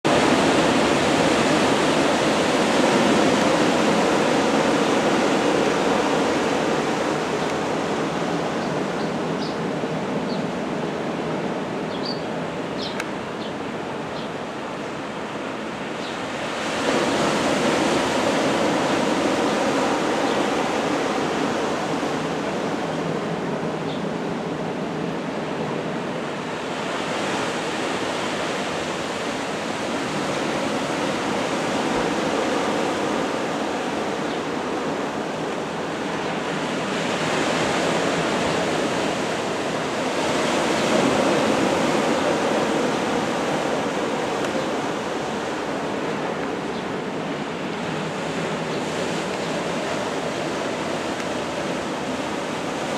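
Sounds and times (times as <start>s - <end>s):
sea surf rushing: 0.0s - 52.9s
strong wind: 0.0s - 52.9s.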